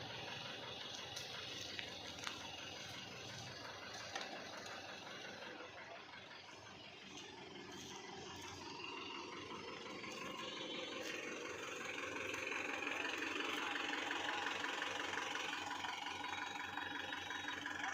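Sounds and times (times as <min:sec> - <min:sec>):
engine running: 0:00.0 - 0:17.9.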